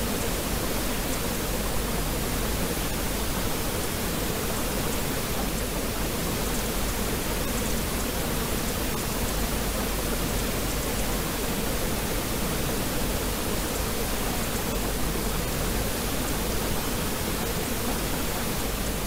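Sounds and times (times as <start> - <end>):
pink noise hiss: 0.0 - 19.0.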